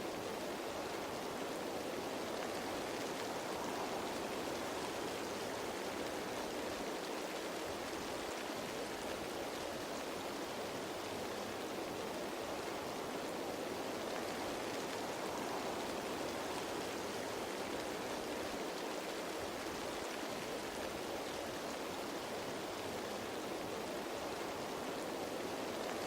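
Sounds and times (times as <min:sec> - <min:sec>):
rain falling on foliage: 0:00.0 - 0:26.0.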